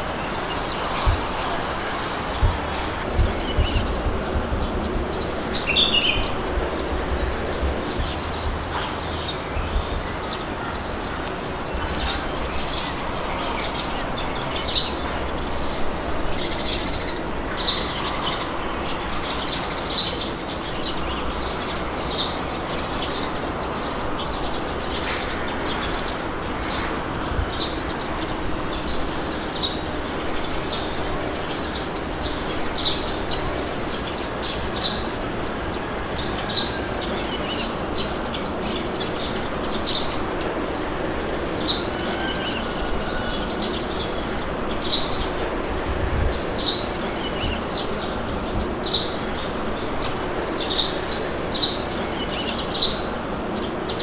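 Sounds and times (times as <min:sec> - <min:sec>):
birds chirping: 0:00.0 - 0:54.0
rushing wind: 0:00.0 - 0:54.0.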